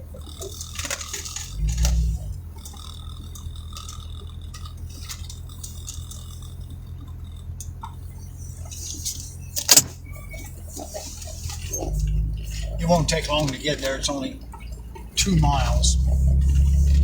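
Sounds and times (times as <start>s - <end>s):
small clicks and rattles: 0.0s - 17.0s
vehicle engine running: 0.0s - 17.0s.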